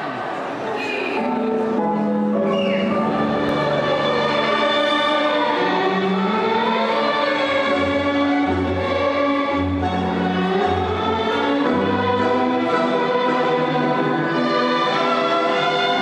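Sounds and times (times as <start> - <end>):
gliding string notes: 1.2 - 16.0.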